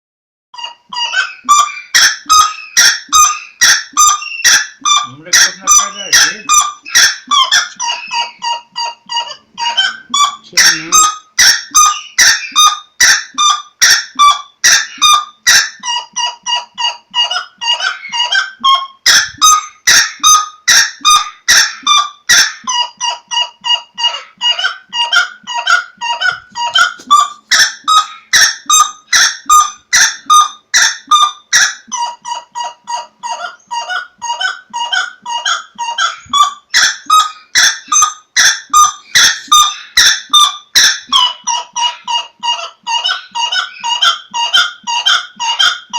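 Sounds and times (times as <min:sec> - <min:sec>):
loud honking bird calls: 0:00.6 - 0:45.9.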